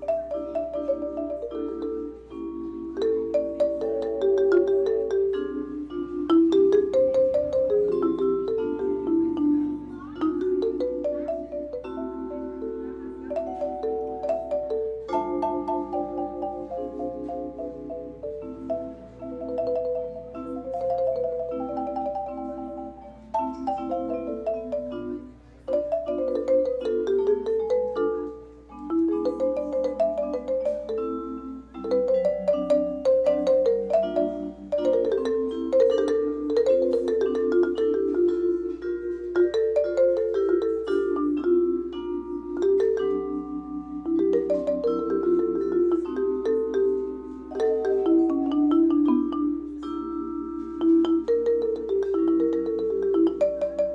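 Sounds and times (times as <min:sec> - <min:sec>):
mallet percussion music: 0:00.0 - 0:53.9.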